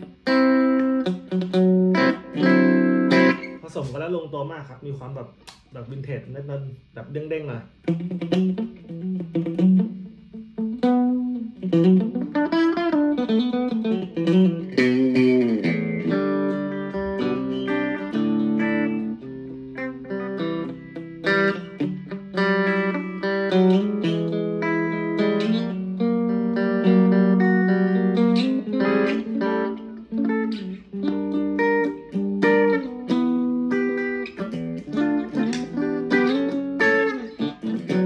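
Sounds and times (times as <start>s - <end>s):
electric guitar playing: 0.0s - 4.1s, 7.7s - 38.0s.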